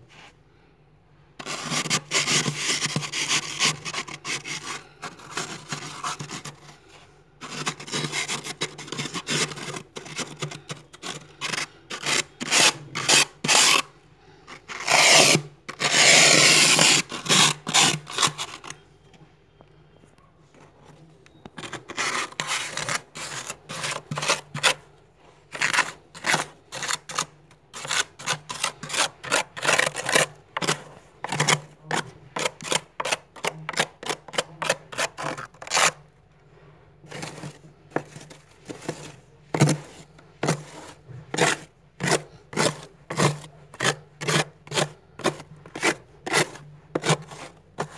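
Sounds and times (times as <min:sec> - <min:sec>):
plastic card scraping frost: 0:01.4 - 0:18.8, 0:21.5 - 0:36.1, 0:37.0 - 0:47.9.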